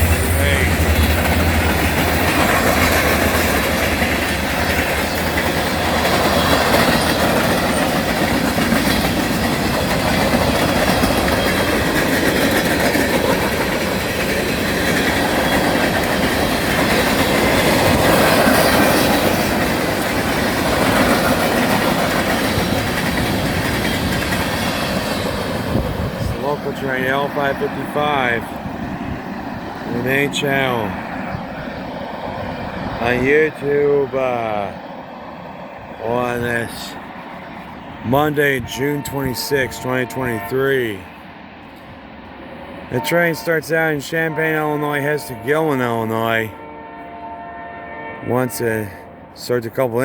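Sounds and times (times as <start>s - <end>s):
freight train wheels clacking: 0.0s - 47.7s.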